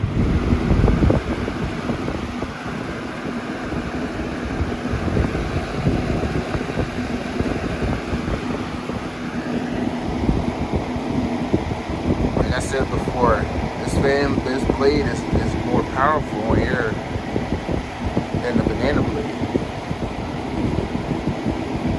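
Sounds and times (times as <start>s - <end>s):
fan air buffeting microphone: 0.0s - 21.9s
fan motor hum: 0.0s - 21.9s.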